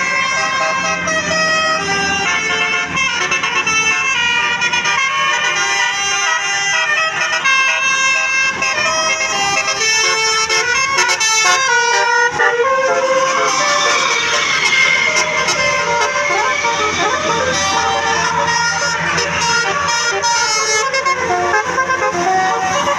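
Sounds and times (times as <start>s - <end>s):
musical air horn playing a tune: 0.0s - 22.9s.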